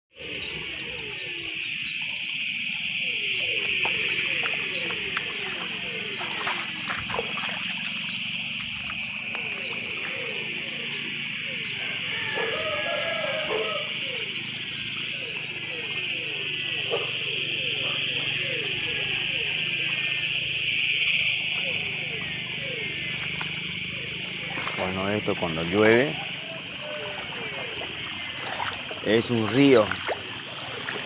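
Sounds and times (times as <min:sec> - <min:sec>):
continuous high drone: 0:00.2 - 0:31.0.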